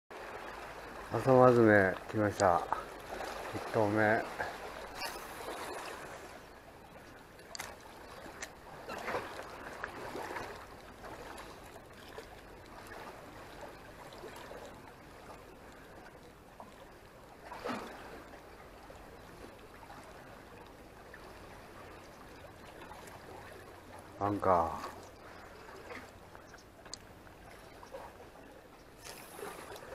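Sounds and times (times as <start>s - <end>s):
sea water lapping on concrete: 0.1s - 29.9s.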